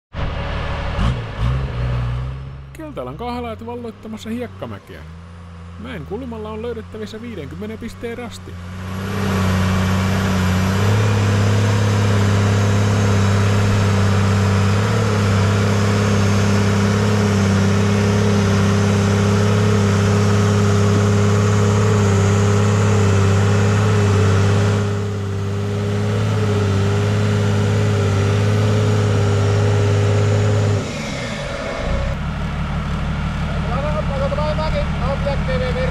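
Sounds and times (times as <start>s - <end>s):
off-road vehicle engine revving: 0.1s - 35.9s.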